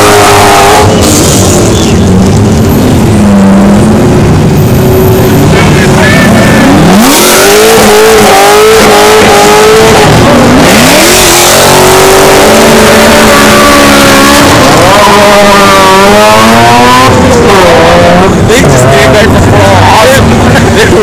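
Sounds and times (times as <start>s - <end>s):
car engine revving hard: 0.0s - 1.7s, 2.4s - 21.0s.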